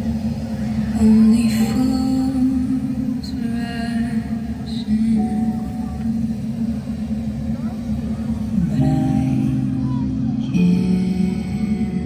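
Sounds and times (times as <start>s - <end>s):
music with low drone and held tones: 0.0s - 12.0s.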